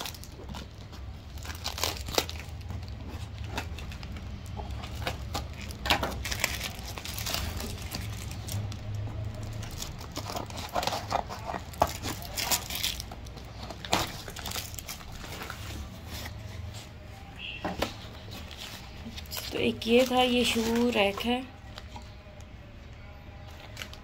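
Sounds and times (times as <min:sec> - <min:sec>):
cardboard tearing: 0:00.0 - 0:16.7, 0:18.4 - 0:21.3
plastic wrap crinkling: 0:00.0 - 0:22.6.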